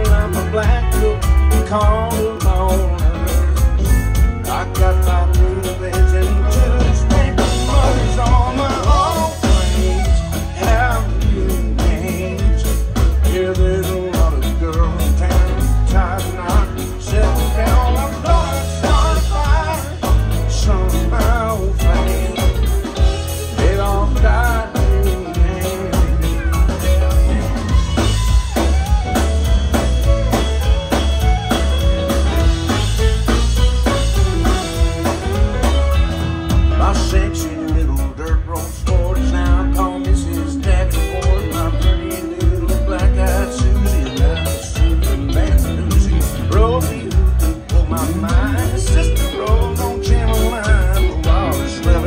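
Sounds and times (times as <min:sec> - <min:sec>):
country band playing: 0:00.0 - 0:52.0
drums: 0:00.0 - 0:52.0
electric bass: 0:00.0 - 0:52.0.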